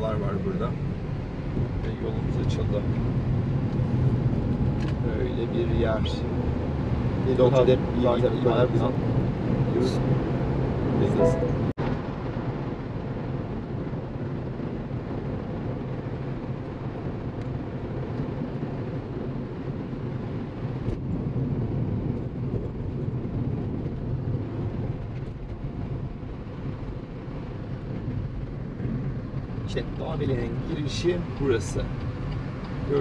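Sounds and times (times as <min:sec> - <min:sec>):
car engine hum: 0:00.0 - 0:33.0
road and tyre noise: 0:00.0 - 0:33.0.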